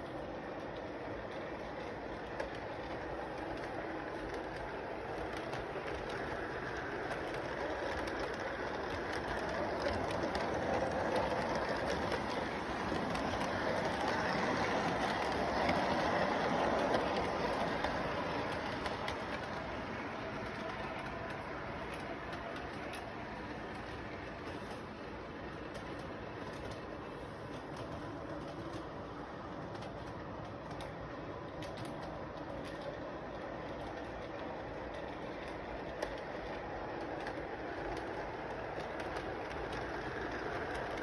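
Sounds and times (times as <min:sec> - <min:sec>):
model train rumbling on track: 0:00.0 - 0:41.0.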